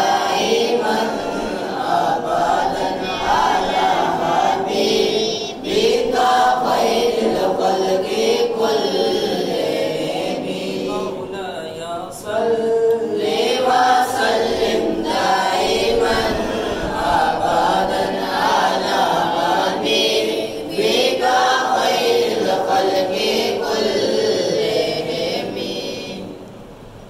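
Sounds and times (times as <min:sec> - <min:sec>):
boys chanting in unison: 0:00.0 - 0:26.4.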